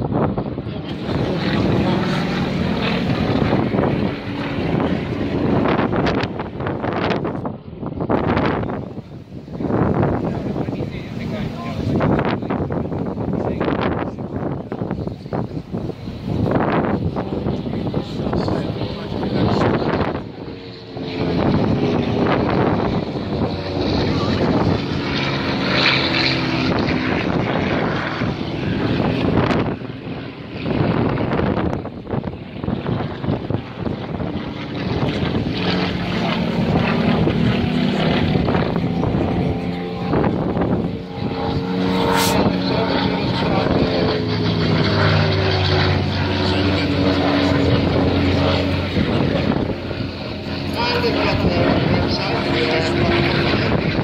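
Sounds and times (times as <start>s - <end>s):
propeller plane flying overhead: 0.0s - 54.0s.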